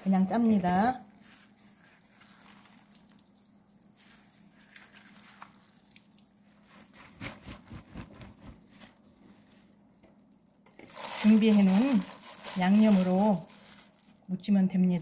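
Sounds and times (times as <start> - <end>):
cloth squishing and dripping: 1.2 - 14.2.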